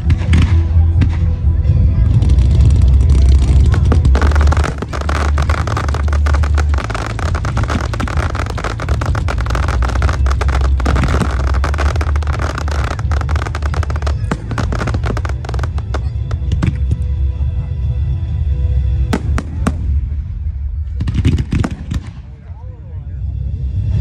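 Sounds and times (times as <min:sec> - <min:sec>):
fireworks bangs and crackling: 0:00.0 - 0:17.1, 0:19.1 - 0:22.5
low rumble: 0:00.0 - 0:24.0.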